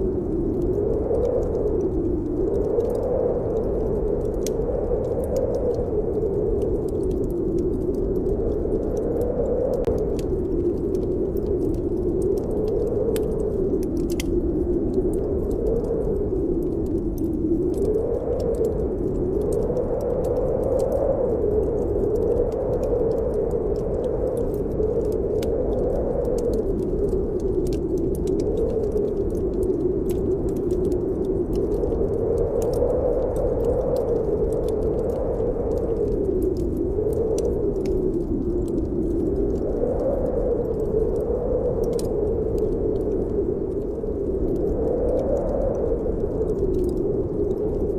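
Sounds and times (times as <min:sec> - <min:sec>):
wind howling: 0:00.0 - 0:47.9
wood fire crackling: 0:00.0 - 0:47.9.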